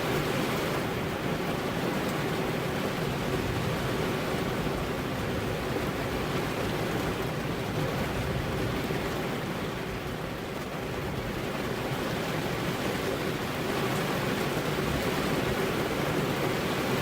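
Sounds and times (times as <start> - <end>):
heavy rain on car windows: 0.0 - 17.0.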